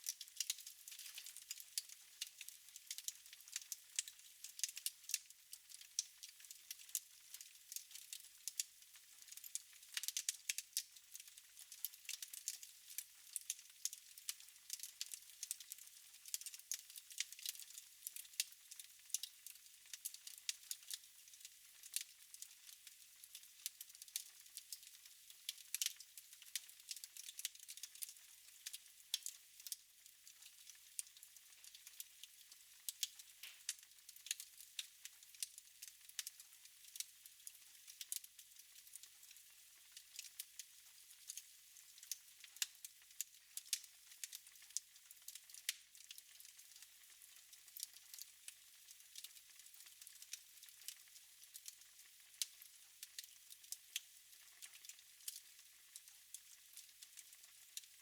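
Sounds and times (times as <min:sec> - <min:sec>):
wood fire crackling: 0:00.0 - 0:19.3, 0:19.9 - 0:24.9, 0:25.5 - 0:37.1, 0:37.9 - 0:39.1, 0:41.2 - 0:46.6, 0:47.8 - 0:48.2, 0:49.1 - 0:51.8, 0:52.4 - 0:55.4.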